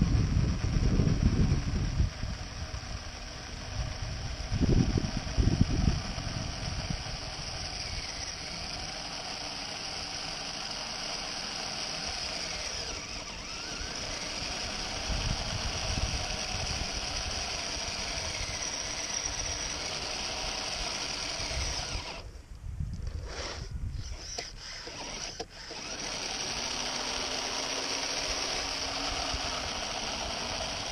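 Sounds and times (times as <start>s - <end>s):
toy snowcat tracks running: 0.0s - 22.3s, 23.0s - 30.9s.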